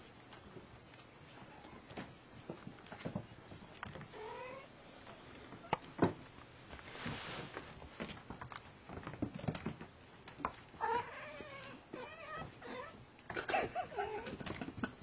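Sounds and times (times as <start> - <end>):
kittens wrestling and scrabbling: 0.0 - 15.0.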